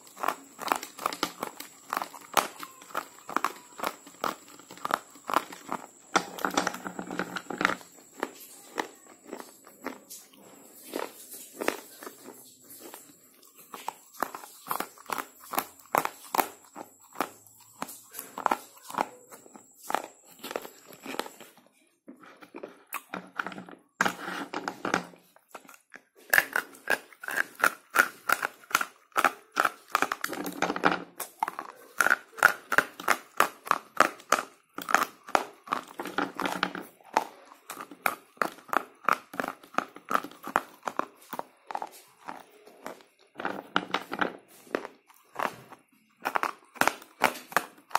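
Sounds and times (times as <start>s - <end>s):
dry crunching chewing: 0.0s - 47.9s.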